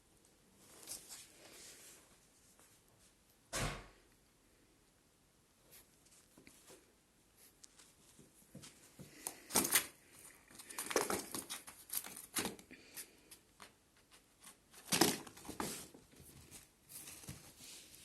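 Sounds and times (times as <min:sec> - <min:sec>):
rustling and crinkling: 0:00.1 - 0:03.3, 0:05.5 - 0:18.0.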